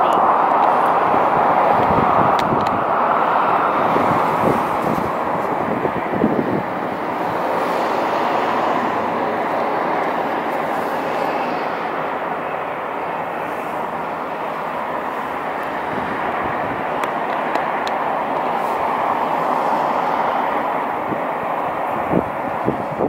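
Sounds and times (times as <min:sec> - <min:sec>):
city background hiss: 0:00.0 - 0:23.0.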